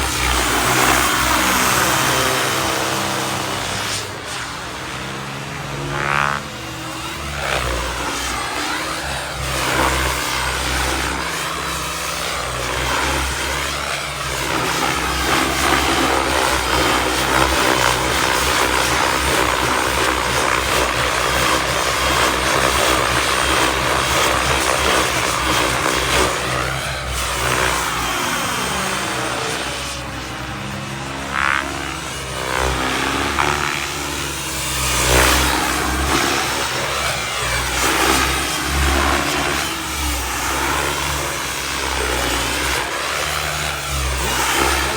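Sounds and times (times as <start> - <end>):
model helicopter turbine whine: 0.0 - 44.9
rotor blade chop: 0.0 - 44.9.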